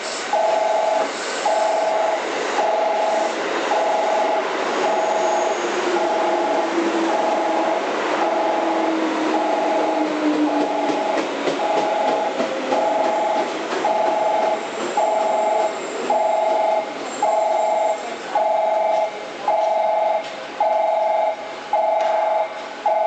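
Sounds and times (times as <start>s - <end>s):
electric train running noise: 0.0s - 23.0s
two-tone electronic warning beep: 0.3s - 10.0s, 10.6s - 23.0s.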